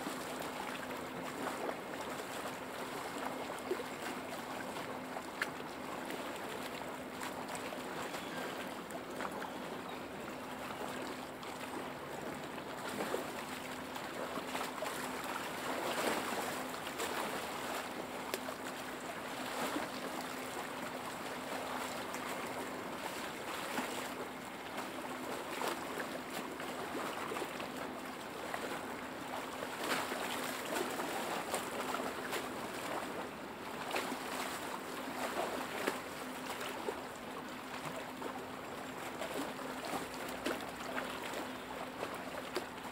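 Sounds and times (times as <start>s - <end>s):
faint steady hum: 0.0s - 42.9s
lake waves lapping and splashing: 0.0s - 42.9s.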